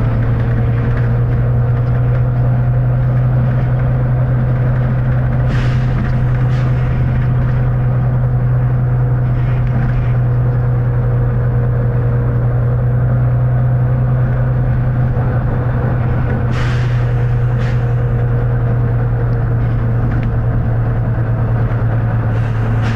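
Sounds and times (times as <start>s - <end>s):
bus engine droning: 0.0s - 22.9s.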